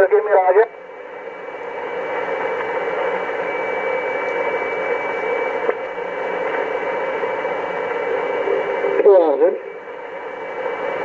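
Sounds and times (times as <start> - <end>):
radio static hiss: 0.0 - 0.8, 1.9 - 11.0.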